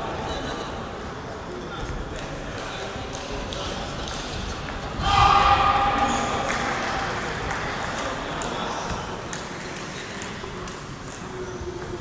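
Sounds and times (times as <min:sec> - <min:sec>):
sports hall background noise: 0:00.0 - 0:12.0.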